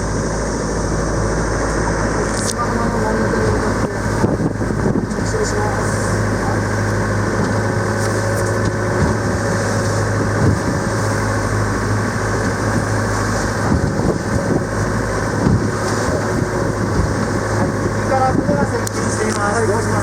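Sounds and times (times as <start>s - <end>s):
motorboat engine humming: 0.0s - 20.0s.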